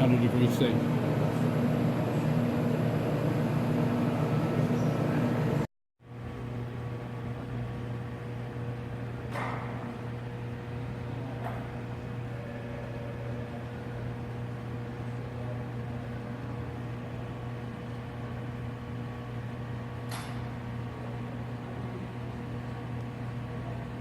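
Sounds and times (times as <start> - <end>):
furnace humming: 0.0 - 24.0.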